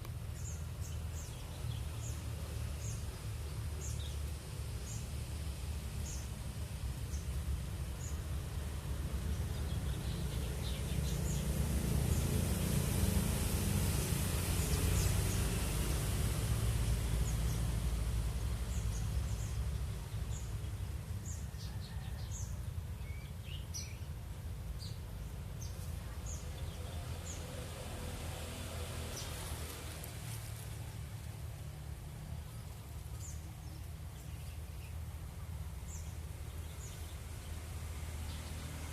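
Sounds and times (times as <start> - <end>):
low rumble and hiss: 0.0 - 38.9
small birds chirping: 0.0 - 38.9.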